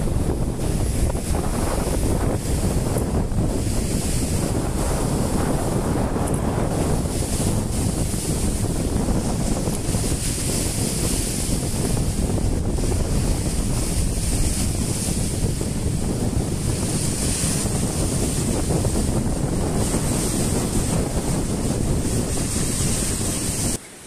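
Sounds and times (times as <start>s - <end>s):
waves breaking on boulders: 0.0s - 24.0s
wind buffeting microphone: 0.0s - 24.0s.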